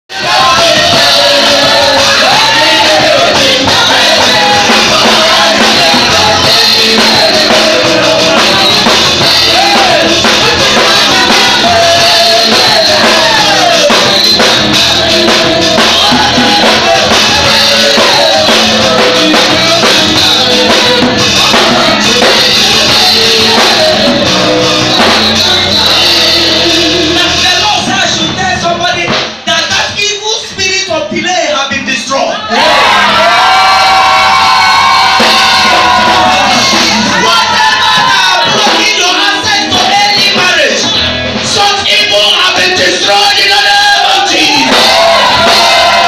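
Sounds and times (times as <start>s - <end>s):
man singing through microphone: 0.1s - 32.3s, 35.2s - 46.0s
drums: 0.1s - 46.0s
keyboard: 0.1s - 46.0s.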